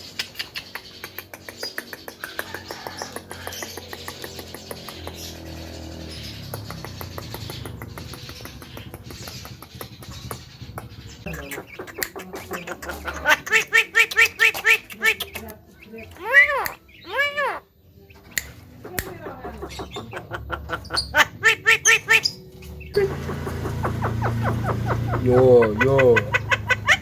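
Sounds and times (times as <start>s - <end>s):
myna chattering and calling: 0.0s - 27.0s.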